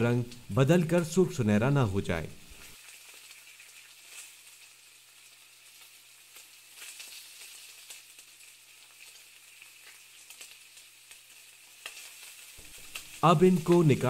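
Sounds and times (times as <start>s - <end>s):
patties sizzling in hot oil: 0.0s - 14.0s.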